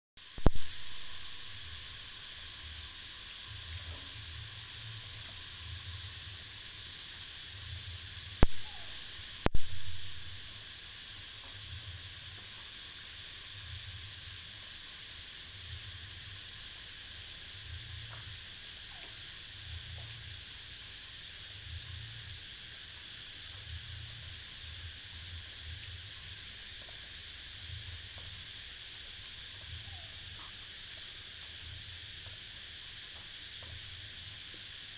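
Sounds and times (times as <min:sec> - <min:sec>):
insect chirring: 0:00.2 - 0:34.9.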